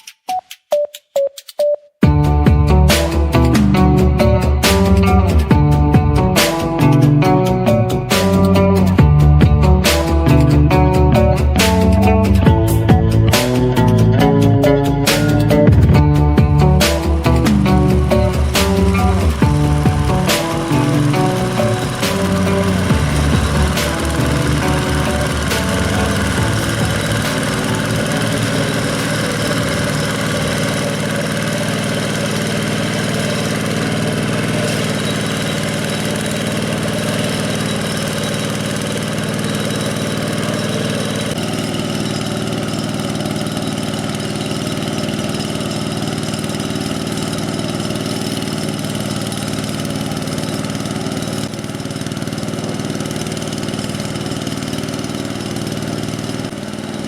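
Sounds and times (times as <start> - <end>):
hand tractor diesel engine running: 2.0 - 57.0.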